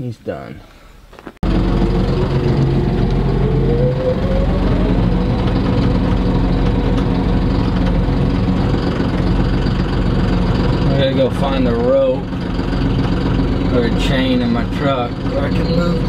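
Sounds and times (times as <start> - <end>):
engine whine: 1.1 - 16.0
tractor engine running: 1.4 - 16.0.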